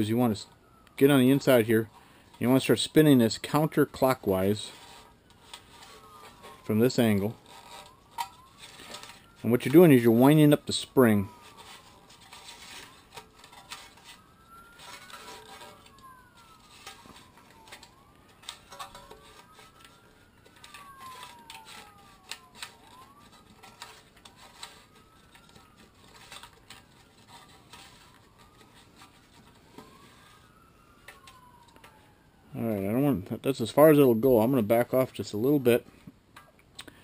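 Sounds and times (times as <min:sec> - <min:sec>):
siren rising and falling: 0:00.0 - 0:35.9.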